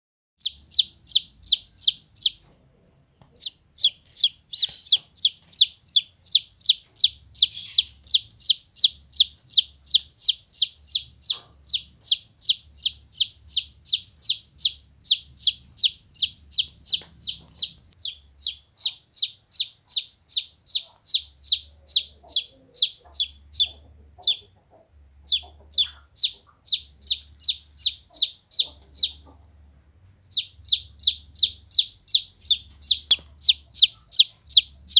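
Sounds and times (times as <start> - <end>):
chick peeping: 0.4 - 34.9.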